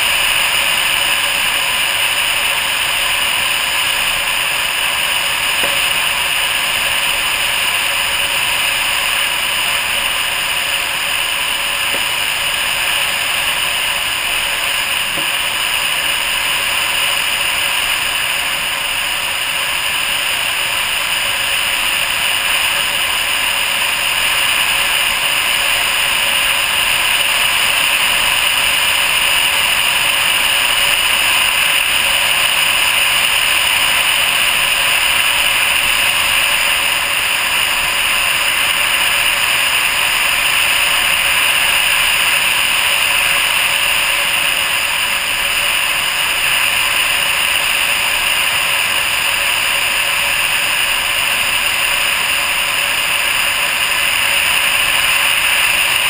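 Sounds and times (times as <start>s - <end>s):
rush of air hiss: 0.0s - 56.0s.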